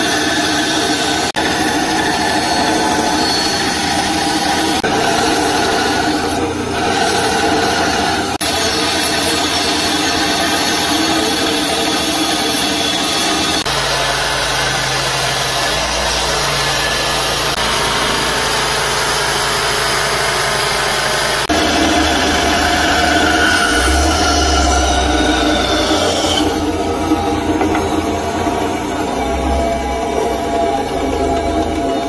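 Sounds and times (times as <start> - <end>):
bandsaw cutting wood: 0.0 - 32.0
belt grinder sanding: 0.0 - 32.0.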